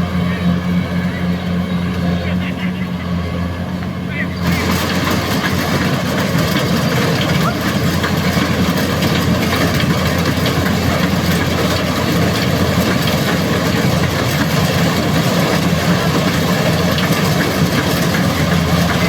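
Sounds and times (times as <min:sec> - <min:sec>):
heavy harvester engine running: 0:00.0 - 0:19.0.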